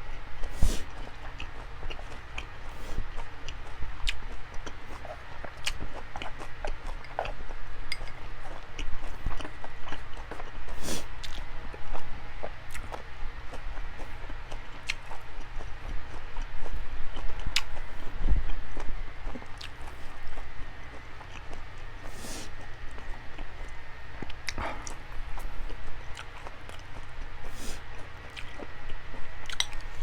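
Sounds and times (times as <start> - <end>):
person chewing meat: 0.2 - 30.0.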